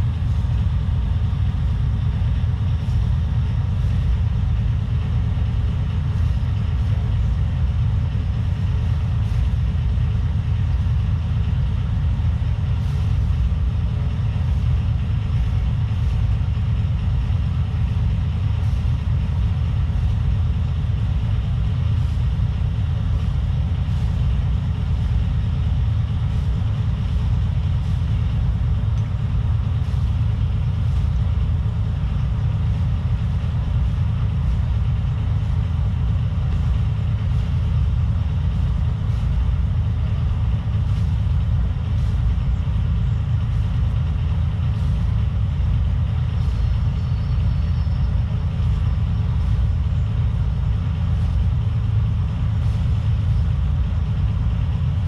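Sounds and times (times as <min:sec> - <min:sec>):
ferry engine drone: 0:00.0 - 0:55.0.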